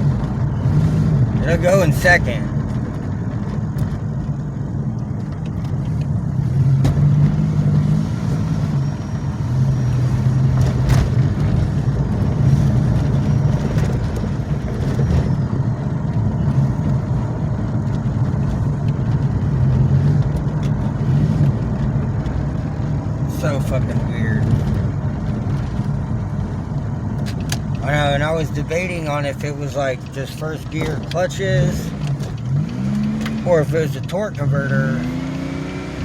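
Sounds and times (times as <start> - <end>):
car engine running: 0.0 - 36.0.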